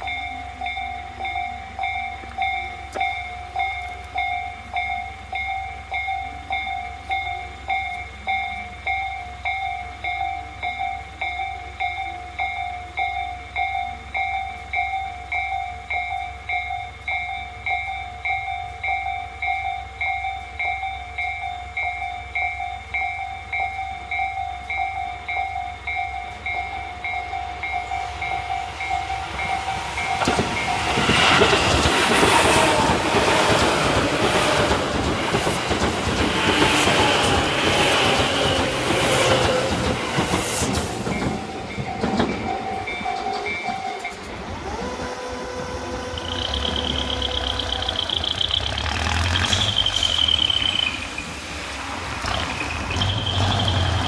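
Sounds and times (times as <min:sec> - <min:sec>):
level crossing warning bell: 0:00.0 - 0:52.0
train rumble and wheel clatter: 0:00.0 - 0:54.0.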